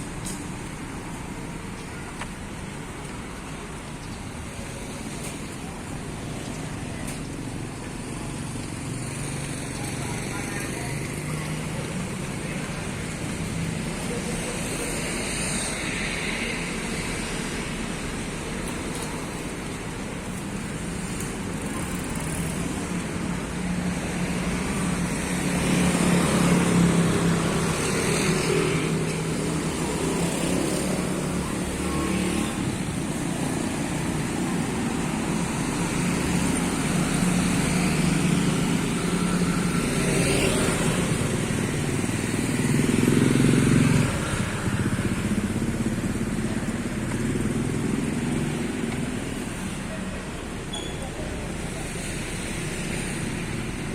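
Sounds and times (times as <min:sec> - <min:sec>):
engine and tyre hum: 0:00.0 - 0:53.9
vehicles passing: 0:00.0 - 0:53.9.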